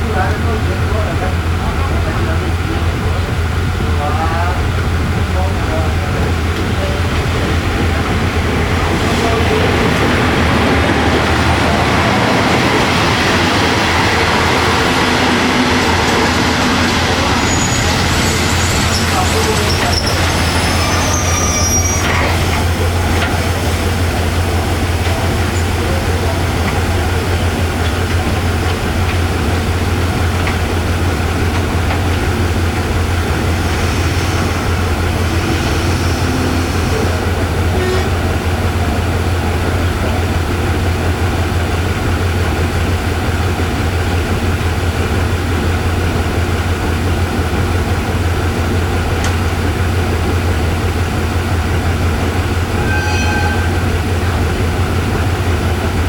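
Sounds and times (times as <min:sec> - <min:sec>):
diesel locomotive idling: 0:00.0 - 0:56.0.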